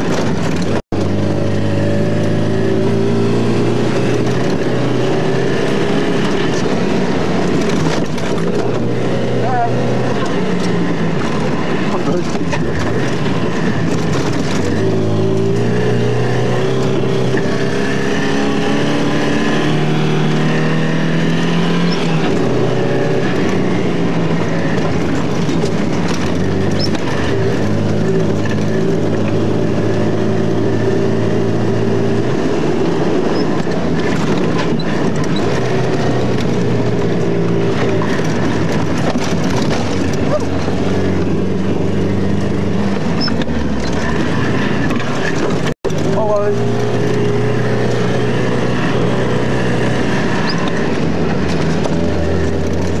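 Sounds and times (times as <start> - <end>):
car engine revving hard: 0.0 - 53.0
tyre and road noise: 0.0 - 53.0.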